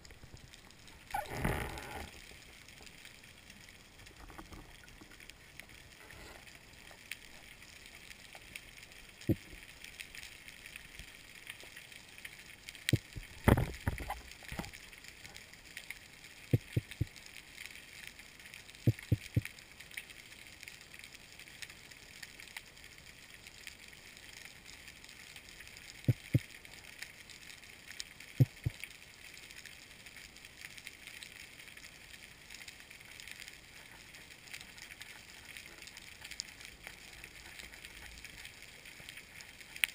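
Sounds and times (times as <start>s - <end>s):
underwater fizzing crackle: 0.0s - 39.9s.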